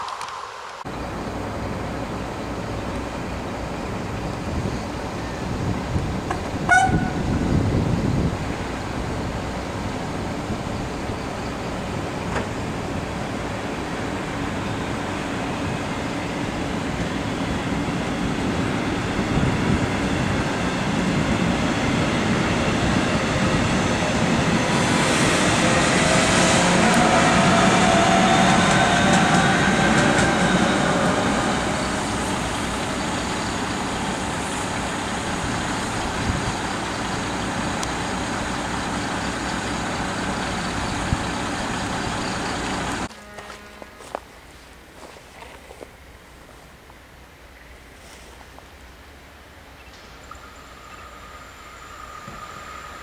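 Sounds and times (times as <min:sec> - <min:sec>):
locomotive whine: 0:00.0 - 0:45.8, 0:49.5 - 0:53.0
train wheels rumbling on rail: 0:00.0 - 0:46.6, 0:49.7 - 0:53.0.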